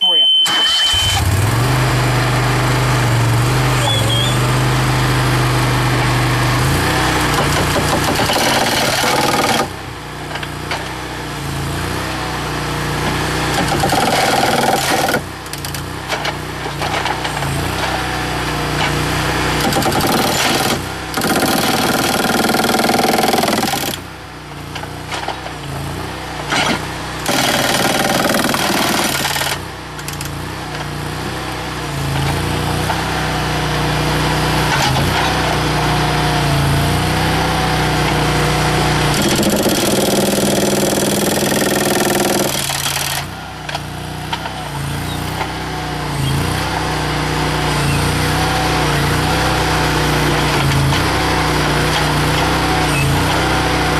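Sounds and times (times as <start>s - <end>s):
engine running steadily: 0.1s - 53.9s
hydraulic breaker pounding concrete: 0.7s - 53.9s.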